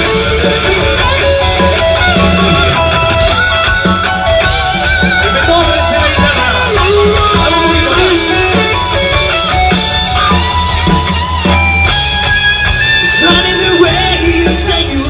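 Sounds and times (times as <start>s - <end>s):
electric guitar bending notes: 0.0s - 15.0s
instrumental rock band: 0.0s - 15.0s.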